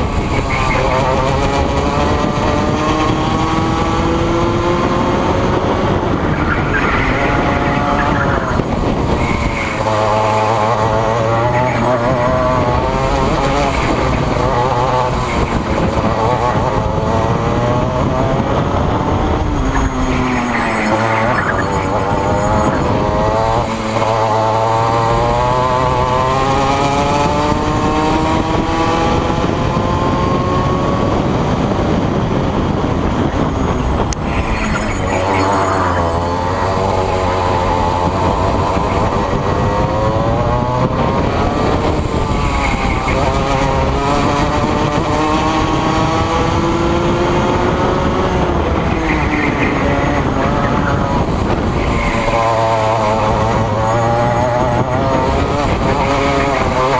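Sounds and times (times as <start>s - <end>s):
kart two-stroke engine racing: 0.0s - 56.9s.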